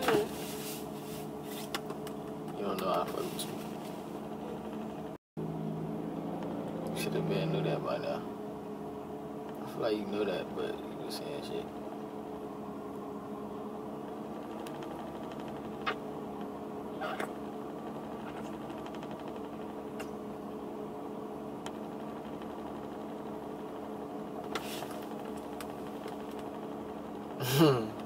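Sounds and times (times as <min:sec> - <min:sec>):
car cabin mechanical hum: 0:00.0 - 0:28.0.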